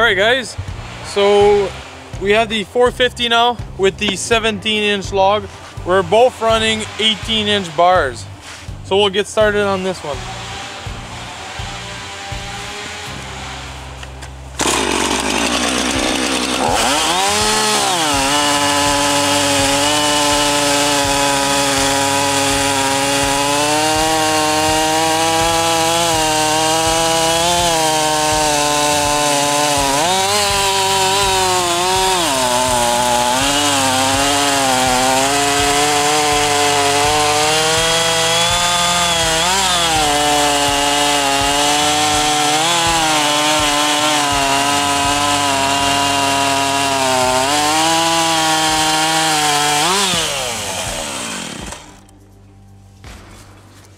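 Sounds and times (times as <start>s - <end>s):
chainsaw cutting log: 4.0s - 52.1s.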